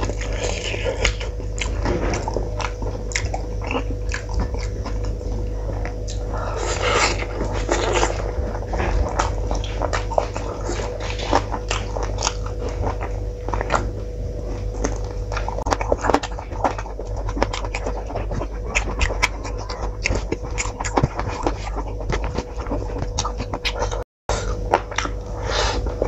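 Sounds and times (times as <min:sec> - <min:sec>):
person chewing and biting: 0:00.0 - 0:26.0
steady hum: 0:00.0 - 0:26.0.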